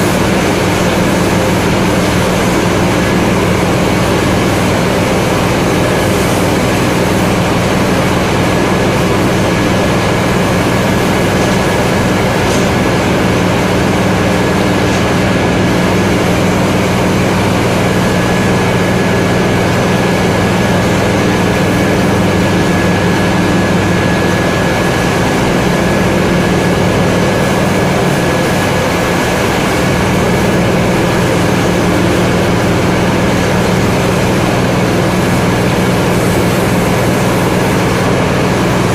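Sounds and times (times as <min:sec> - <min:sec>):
mill machinery droning: 0:00.0 - 0:38.9.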